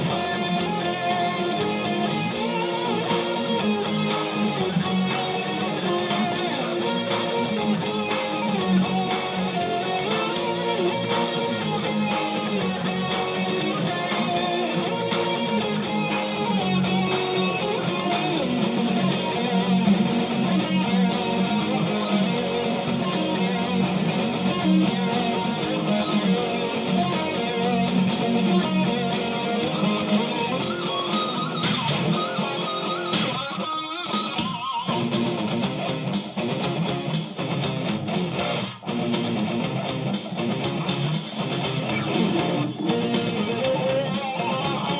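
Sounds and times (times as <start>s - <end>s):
band music: 0.0s - 44.9s
strummed guitars: 0.0s - 44.9s.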